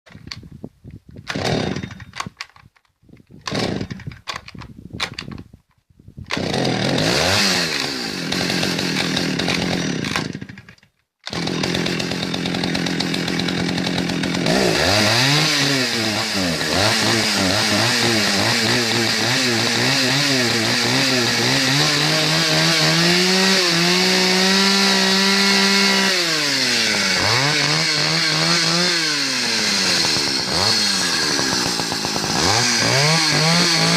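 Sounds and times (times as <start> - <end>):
chainsaw engine revving: 1.3 - 2.1, 3.5 - 4.0, 6.3 - 33.9.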